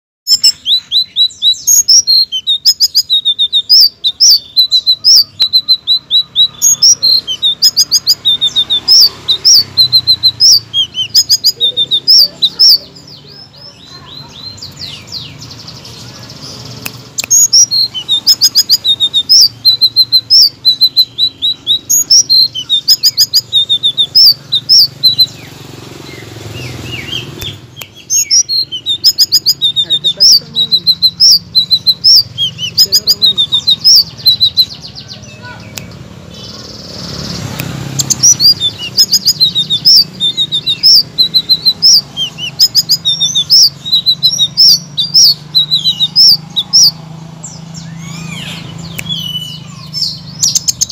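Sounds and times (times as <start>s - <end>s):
songbird chirping and whistling: 0.2s - 50.9s.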